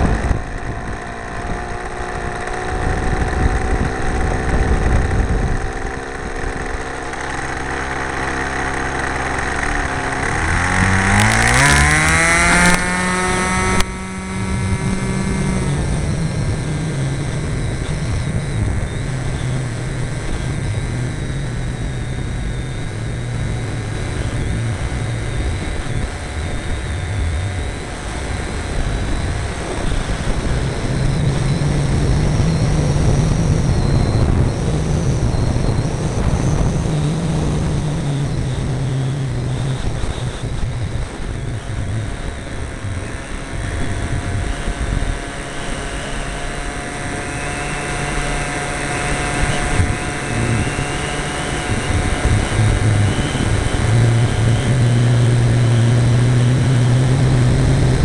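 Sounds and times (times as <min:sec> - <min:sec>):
model airplane engine humming: 0:00.0 - 0:58.0.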